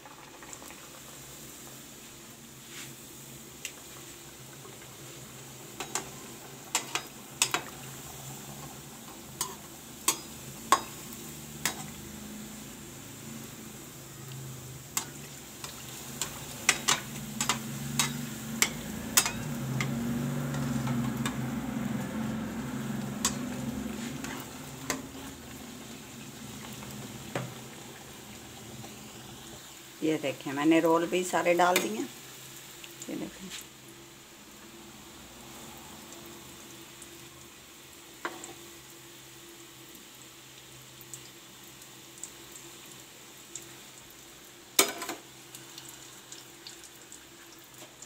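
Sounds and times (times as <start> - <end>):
deep-frying sizzle in hot oil: 0.0 - 48.0.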